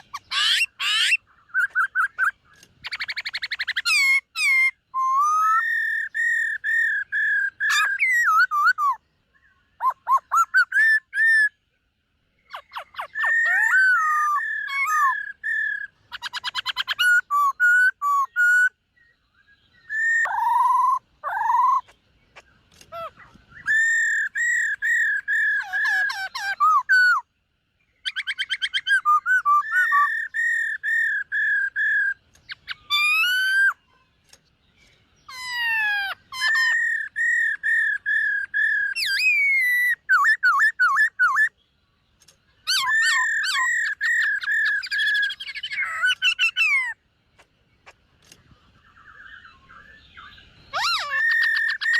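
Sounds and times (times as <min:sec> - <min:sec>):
bird singing whistled phrases: 0:00.0 - 0:11.6, 0:12.5 - 0:22.0, 0:22.9 - 0:27.3, 0:28.0 - 0:34.0, 0:35.2 - 0:41.6, 0:42.6 - 0:47.0, 0:48.8 - 0:51.9.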